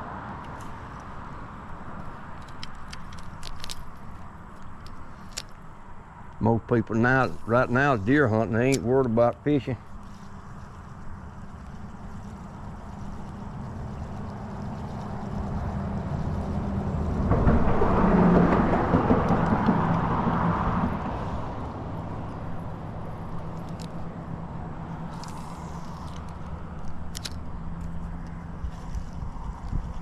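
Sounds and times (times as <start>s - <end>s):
steady low hum: 0.0s - 30.0s
vehicle passing by: 5.9s - 30.0s.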